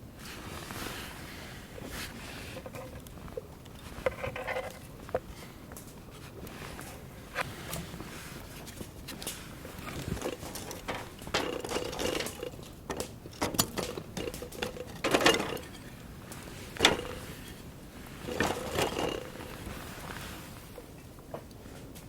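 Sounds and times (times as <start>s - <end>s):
things being handled: 0.2s - 22.0s.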